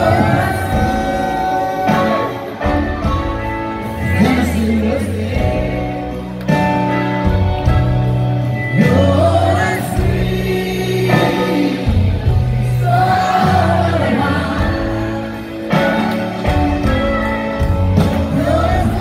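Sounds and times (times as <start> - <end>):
country band playing: 0.0 - 19.0.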